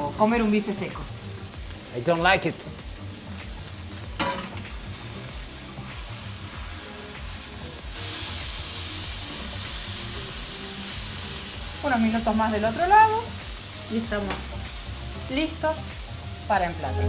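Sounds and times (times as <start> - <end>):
fish sizzling in a skillet: 0.0 - 17.0.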